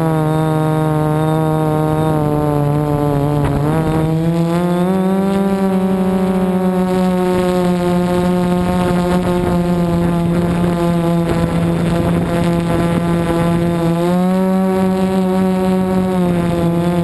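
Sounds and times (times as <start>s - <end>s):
drone propellers buzzing whine: 0.0s - 17.0s.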